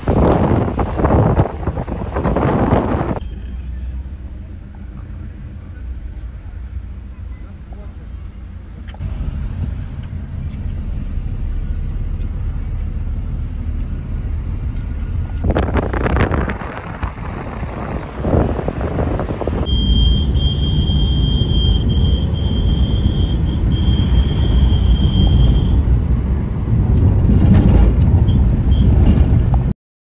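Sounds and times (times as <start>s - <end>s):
road and wind rumble: 0.0s - 29.7s.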